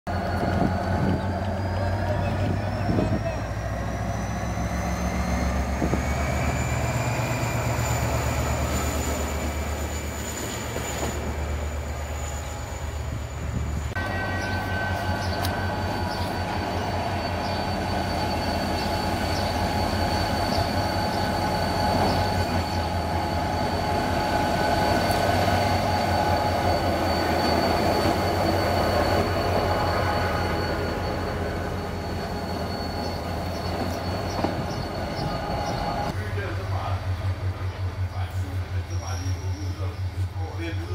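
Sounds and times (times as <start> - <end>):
diesel locomotive engine rumbling: 0.0 - 40.9
locomotive moving along track: 0.1 - 40.9.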